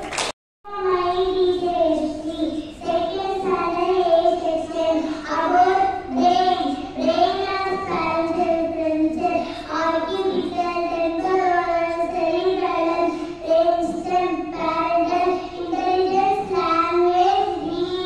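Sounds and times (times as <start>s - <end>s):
girl singing into a microphone: 0.7s - 18.0s.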